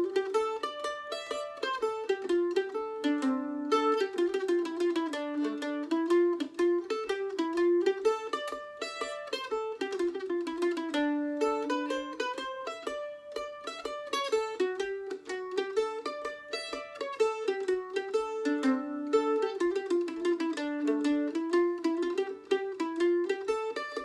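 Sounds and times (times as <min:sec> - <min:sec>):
mandolin playing a reel: 0:00.0 - 0:24.0.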